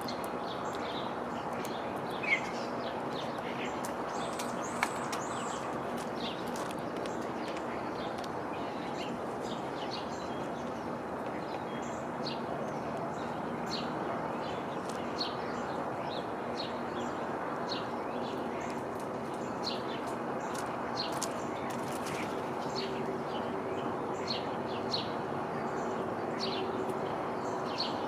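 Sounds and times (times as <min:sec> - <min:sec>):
small songbirds chirping: 0:00.0 - 0:28.0.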